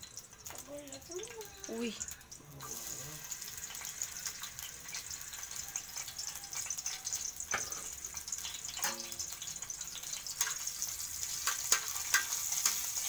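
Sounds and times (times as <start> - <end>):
egg sizzling in hot oil: 0.0 - 13.0.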